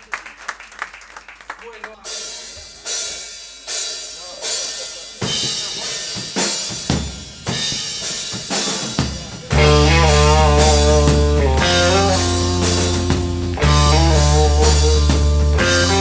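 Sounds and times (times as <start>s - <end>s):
drum hits with cymbal accents: 2.1s - 16.0s
psychedelic rock band playing loudly: 2.8s - 16.0s.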